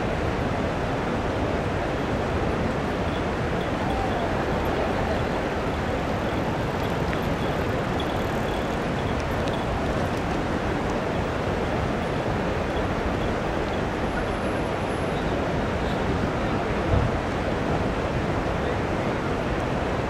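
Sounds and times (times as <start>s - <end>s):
flowing river water: 0.0s - 20.0s
traffic rush: 0.0s - 20.0s.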